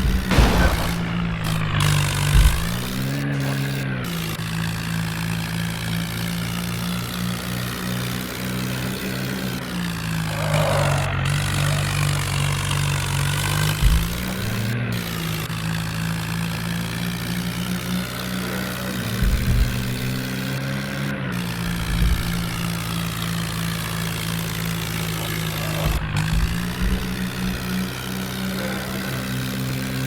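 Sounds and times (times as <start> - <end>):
tractor engine revving: 0.0 - 30.0.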